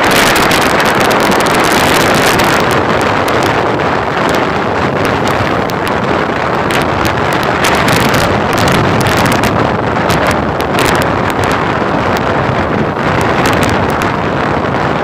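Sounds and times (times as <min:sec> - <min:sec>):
rotor wind noise on microphone: 0:00.0 - 0:15.0.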